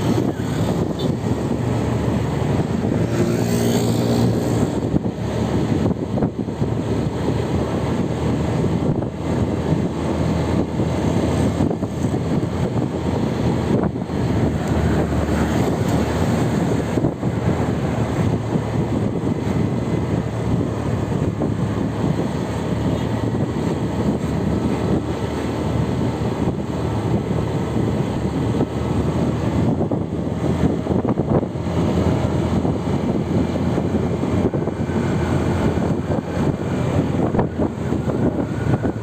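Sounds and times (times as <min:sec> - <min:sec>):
vehicle road and engine rumble: 0:00.0 - 0:39.0
wind buffeting microphone: 0:00.0 - 0:39.0.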